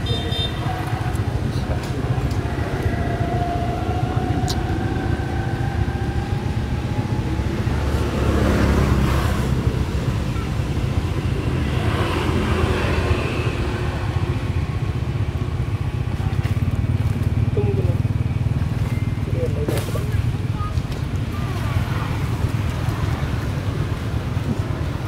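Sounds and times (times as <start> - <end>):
motor traffic running: 0.0 - 25.0
vehicles passing: 0.0 - 25.0.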